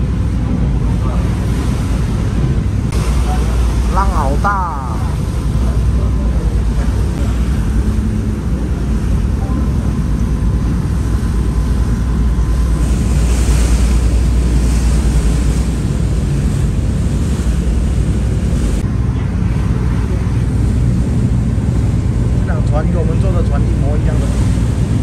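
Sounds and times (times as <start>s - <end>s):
ferry engine low rumble: 0.0s - 25.0s
water rushing: 0.0s - 25.0s
wind buffeting microphone: 0.0s - 25.0s.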